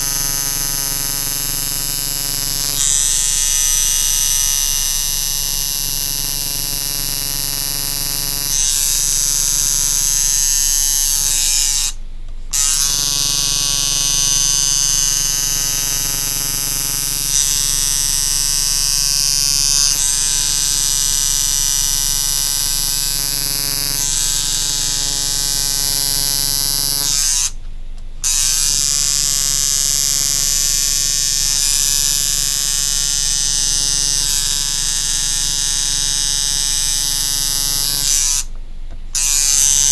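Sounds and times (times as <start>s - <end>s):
tattoo machine buzzing: 0.0s - 27.6s, 28.2s - 39.9s.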